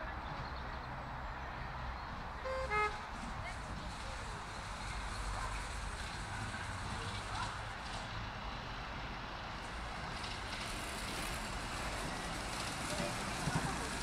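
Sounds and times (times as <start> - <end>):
steam locomotive hiss and rumble: 1.7 - 14.0.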